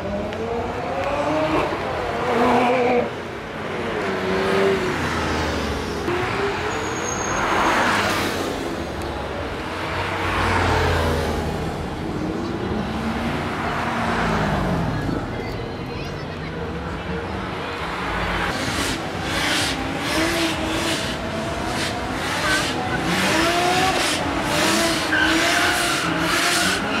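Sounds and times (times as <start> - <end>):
sports car engines revving past: 0.0 - 15.1, 17.5 - 27.0.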